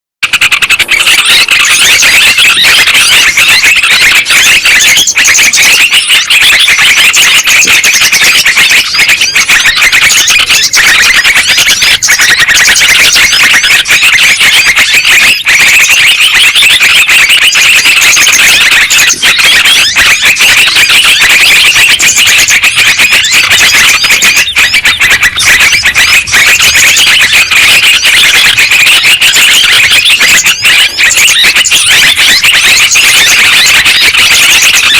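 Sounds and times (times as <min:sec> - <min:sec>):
bulbuls chirping: 0:00.2 - 0:34.9.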